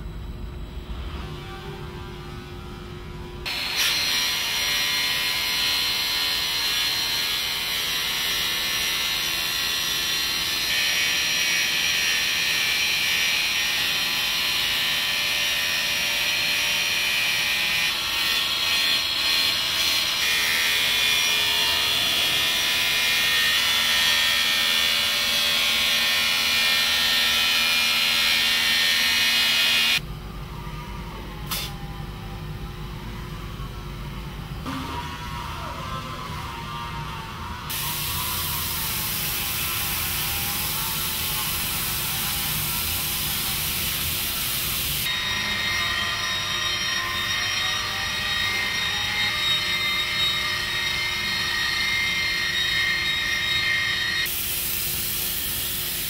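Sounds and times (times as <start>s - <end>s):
grinder grinding metal: 3.5s - 30.0s, 37.5s - 56.0s.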